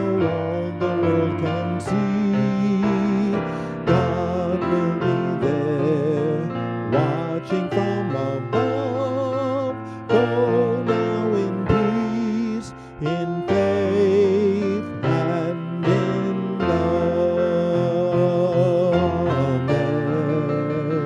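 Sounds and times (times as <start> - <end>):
slow keyboard music: 0.0 - 21.0.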